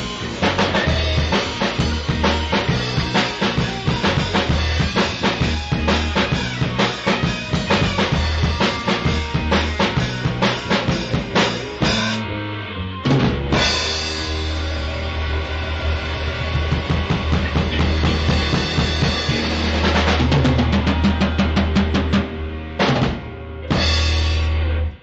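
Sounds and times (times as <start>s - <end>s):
drum kit playing: 0.0s - 24.9s
blues rock band playing: 0.0s - 25.0s.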